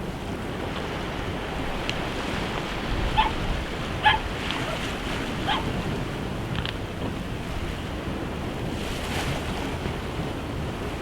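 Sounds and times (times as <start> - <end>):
sea waves washing against rocks: 0.0 - 11.0
wind buffeting microphone: 0.0 - 11.0.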